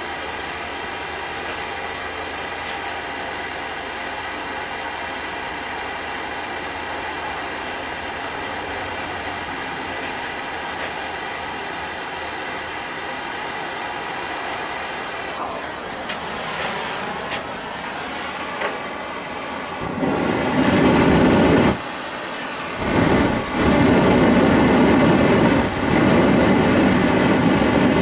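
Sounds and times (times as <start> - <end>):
propane burner hissing: 0.0 - 28.0.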